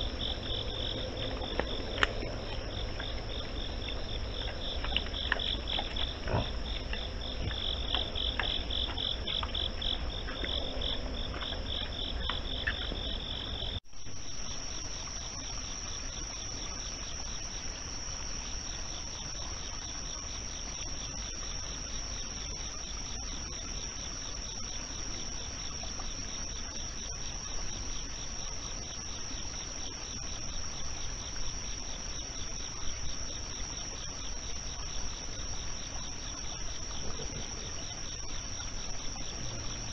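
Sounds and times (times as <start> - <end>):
crickets chirping and trilling: 0.0 - 39.9.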